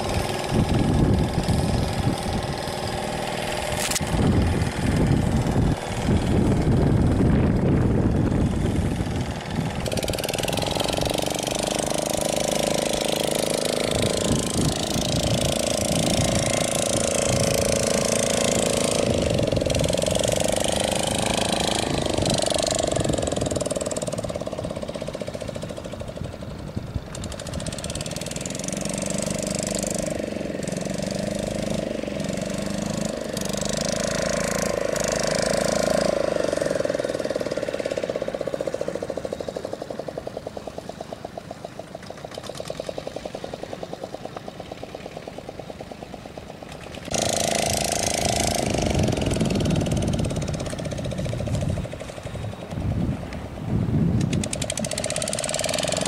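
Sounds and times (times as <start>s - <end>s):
engine running with knocking beat: 0.0s - 53.6s, 54.2s - 56.0s.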